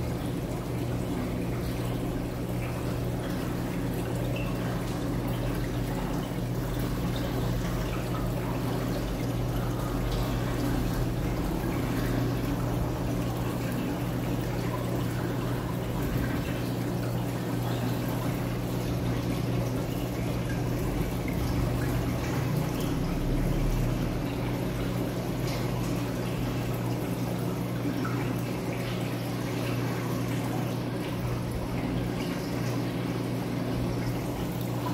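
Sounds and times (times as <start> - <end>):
constant low hum: 0.0 - 34.9
water running and trickling: 0.0 - 34.9.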